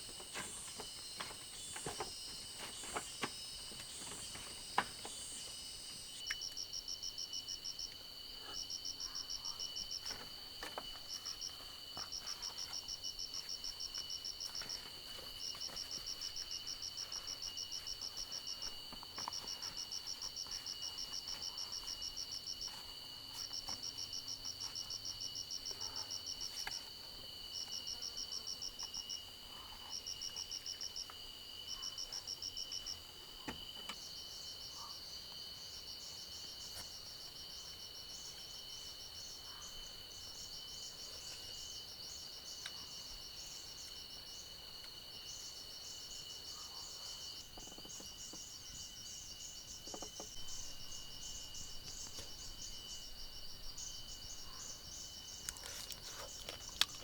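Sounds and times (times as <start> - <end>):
high insect chirping: 0.0 - 57.0.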